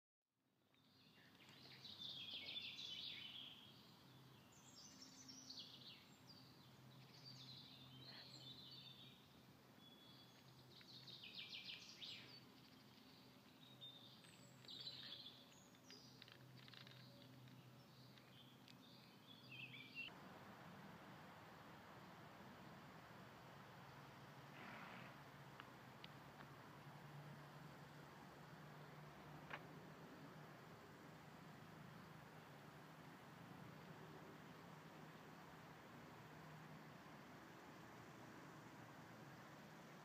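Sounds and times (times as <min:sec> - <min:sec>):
faint steady low hum: 0:00.5 - 0:40.0
faint songbirds singing: 0:00.6 - 0:20.2, 0:21.1 - 0:40.0.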